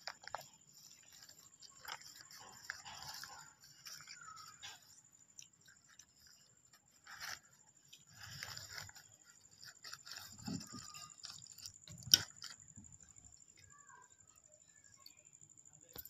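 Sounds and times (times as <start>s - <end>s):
paper wrappers rustling: 0.0s - 13.2s.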